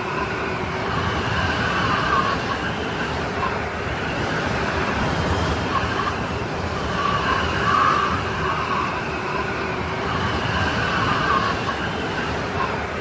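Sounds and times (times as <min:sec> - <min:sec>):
howling snowstorm wind: 0:00.0 - 0:13.0.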